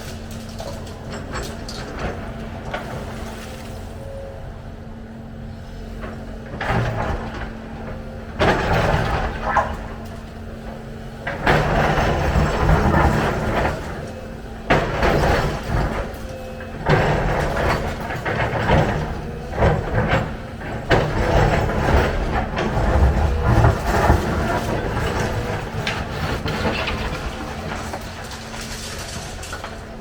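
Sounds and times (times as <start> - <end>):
excavator engine under load: 0.0 - 30.0
loud scraping and rumbling: 5.9 - 30.0.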